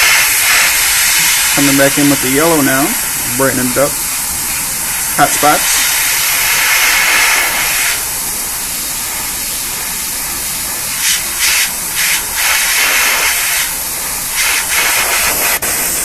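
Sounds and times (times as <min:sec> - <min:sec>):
airbrush spraying hiss: 0:00.0 - 0:16.0.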